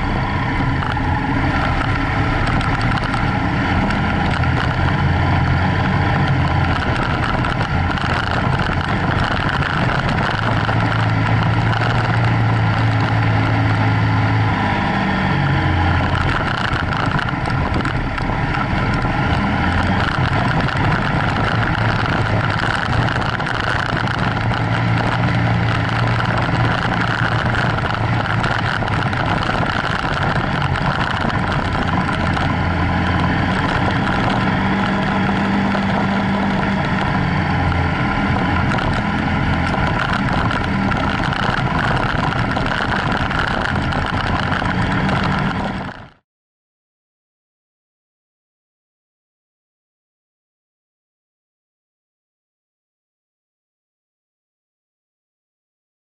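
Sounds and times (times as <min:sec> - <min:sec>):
motorcycle engine running: 0:00.0 - 0:46.2
wind and road noise: 0:00.0 - 0:46.2.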